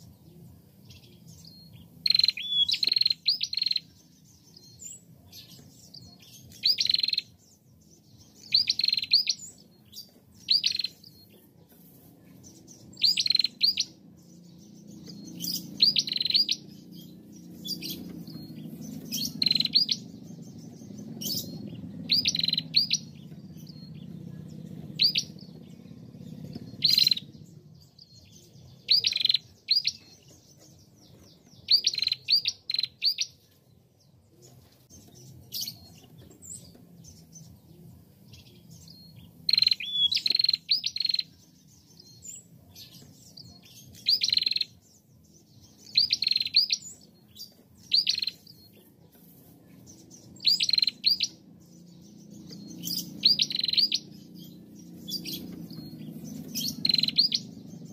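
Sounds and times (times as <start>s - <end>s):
bird chirping: 0.0s - 57.9s.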